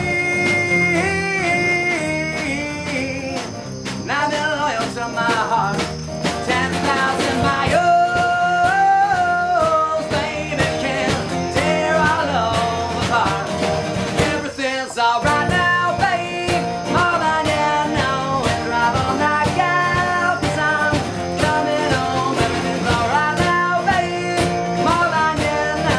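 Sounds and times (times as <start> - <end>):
electric guitar: 0.0 - 25.9
man singing: 0.0 - 25.9
strummed acoustic guitars: 0.0 - 25.9.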